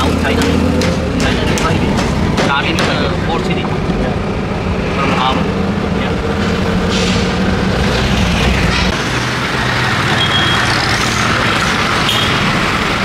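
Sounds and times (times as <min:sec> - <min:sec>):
low engine hum: 0:00.0 - 0:13.0
road traffic engines: 0:00.0 - 0:13.0.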